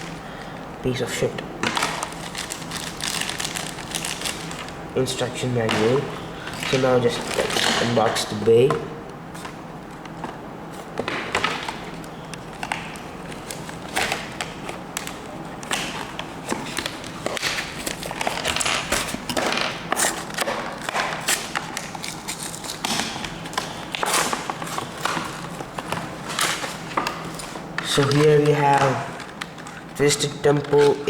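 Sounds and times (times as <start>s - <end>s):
plastic packaging clicks and rustles: 1.6s - 4.8s, 5.6s - 8.8s, 10.9s - 31.0s.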